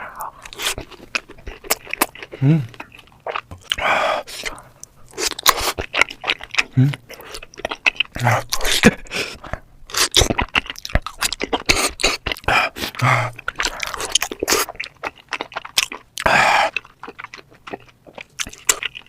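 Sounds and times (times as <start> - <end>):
chewing with crisp crunching: 0.0 - 19.0.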